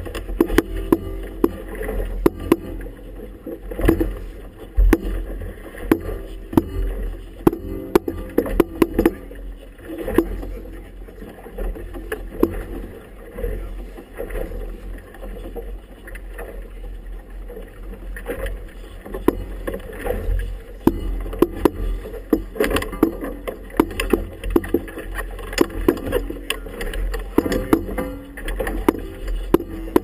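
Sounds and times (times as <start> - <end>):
water slapping boat tube: 0.0 - 30.0.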